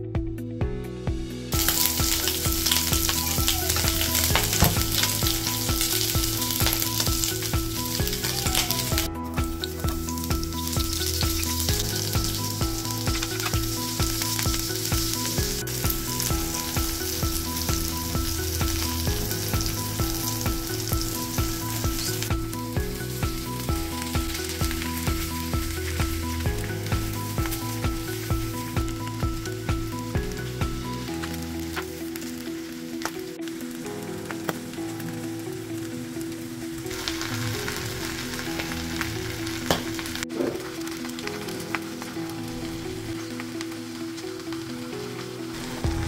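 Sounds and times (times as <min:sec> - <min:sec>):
background music with steady beat: 0:00.0 - 0:46.0
meat sizzling in oil: 0:01.5 - 0:46.0
onions sizzling in oil: 0:01.5 - 0:46.0.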